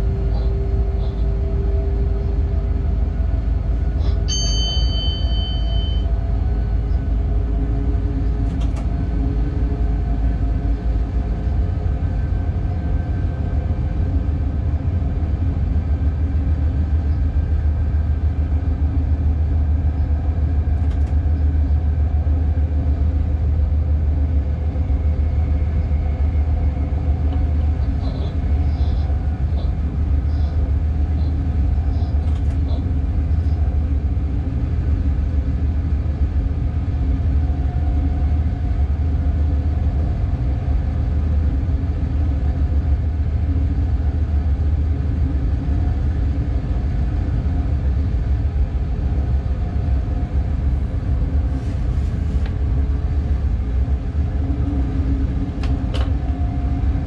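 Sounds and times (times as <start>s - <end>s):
locomotive cab rumble and hum: 0.0s - 57.0s.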